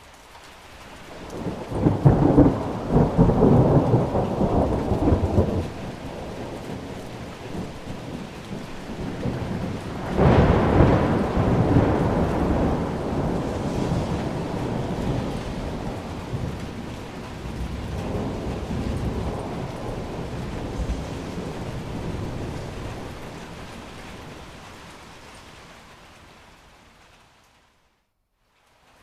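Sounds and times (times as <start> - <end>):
steady rain: 0.0 - 29.0
thunder crack: 1.2 - 25.1
rolling thunder: 1.2 - 25.4.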